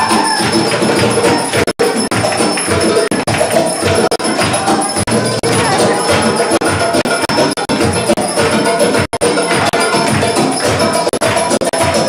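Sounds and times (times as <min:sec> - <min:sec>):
jingling percussion: 0:00.0 - 0:12.0
loud dance music: 0:00.0 - 0:12.0.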